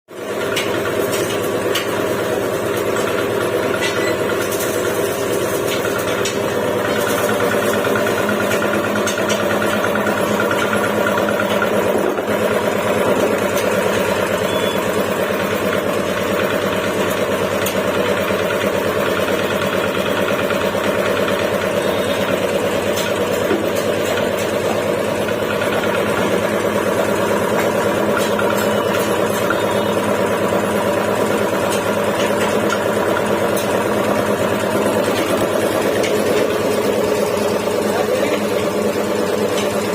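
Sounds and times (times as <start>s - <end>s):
air compressor running: 0.1s - 39.9s.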